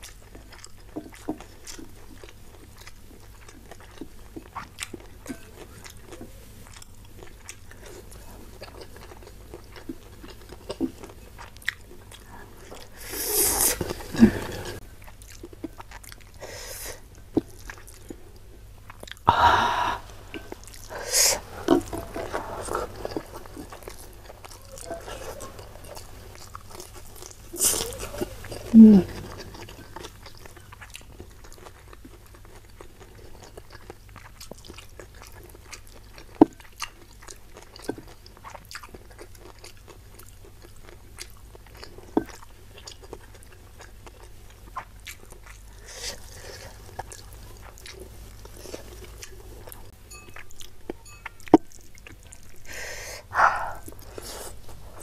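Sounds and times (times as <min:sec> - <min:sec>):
chewing with wet mouth clicks: 0:00.0 - 0:13.0, 0:14.7 - 0:16.4, 0:17.0 - 0:19.3, 0:20.1 - 0:52.7.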